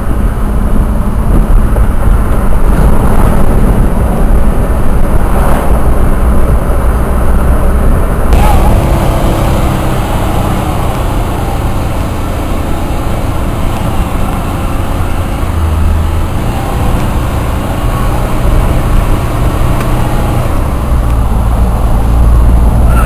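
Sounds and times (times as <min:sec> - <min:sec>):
car engine drone: 0:00.0 - 0:23.0
tyre and road noise: 0:00.0 - 0:23.0.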